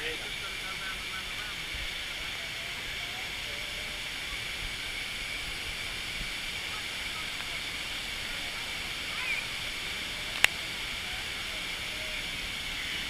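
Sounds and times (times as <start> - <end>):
faint voices: 0.0 - 13.0
waterfall hissing: 0.0 - 13.0.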